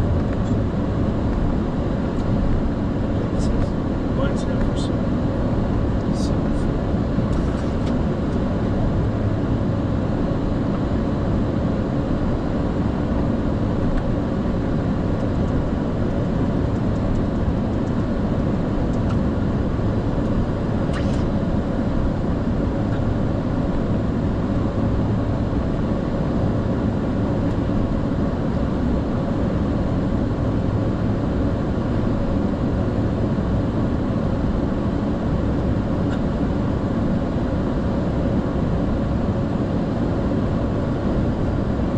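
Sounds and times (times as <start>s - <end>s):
aircraft cockpit low rumble: 0.0s - 41.9s.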